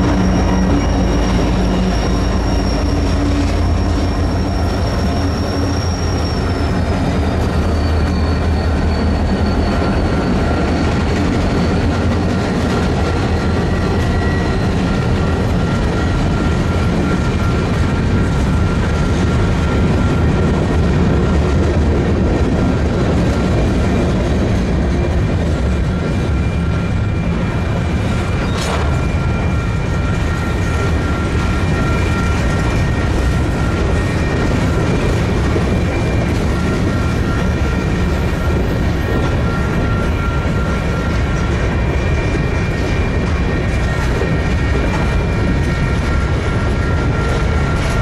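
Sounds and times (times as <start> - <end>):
freight train rumbling: 0.0 - 48.0.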